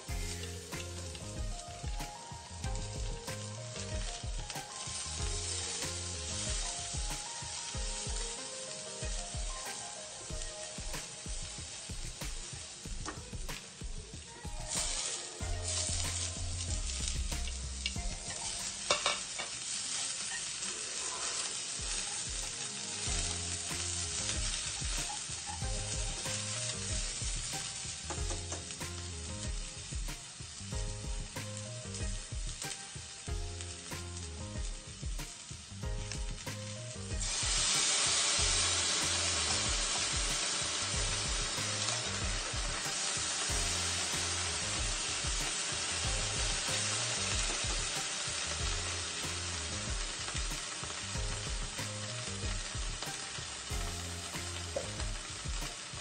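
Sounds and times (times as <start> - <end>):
vegetables sizzling in hot oil: 0.0 - 56.0.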